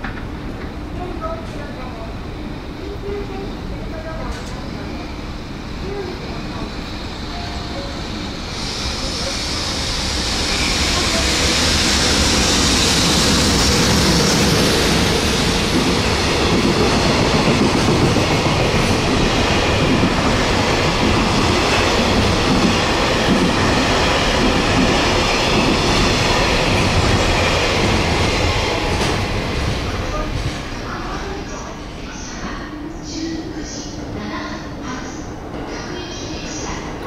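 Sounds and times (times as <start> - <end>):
freight train rumbling: 0.0 - 37.0.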